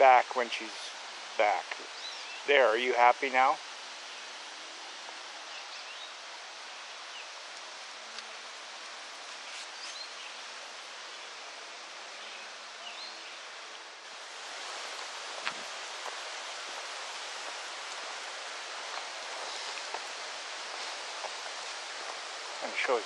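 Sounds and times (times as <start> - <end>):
even hiss: 0.0 - 23.0.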